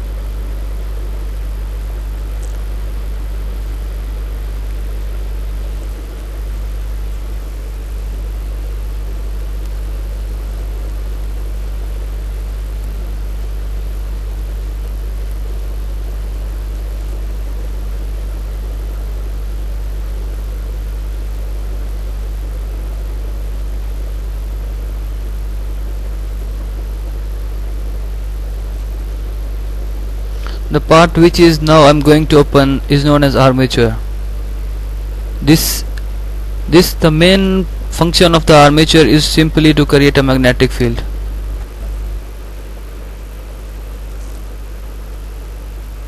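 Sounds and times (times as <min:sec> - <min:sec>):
even hiss: 0:00.0 - 0:46.0
low electrical hum: 0:00.0 - 0:46.0.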